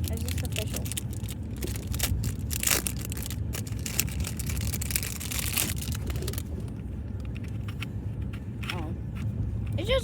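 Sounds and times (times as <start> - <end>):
low rumble of handling noise: 0.0 - 10.0.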